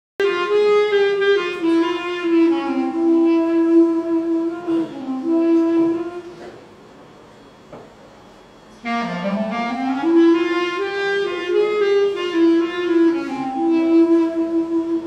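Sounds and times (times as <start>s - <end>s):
solo clarinet melody: 0.2s - 6.5s, 8.8s - 15.0s.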